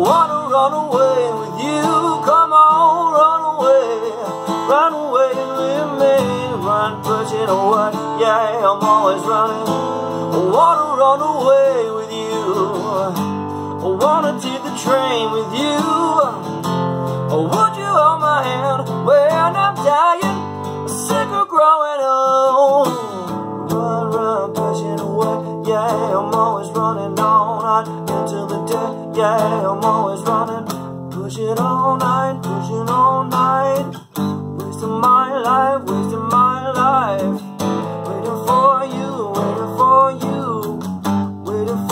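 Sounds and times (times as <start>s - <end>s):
acoustic guitar strumming: 0.0s - 41.9s
man singing: 0.0s - 41.9s.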